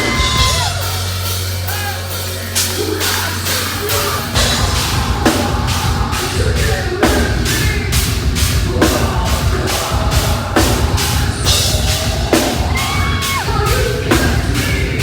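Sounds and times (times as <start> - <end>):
heavy metal band playing live: 0.0 - 15.0
person singing: 0.0 - 15.0
pounding drum kit: 0.0 - 15.0.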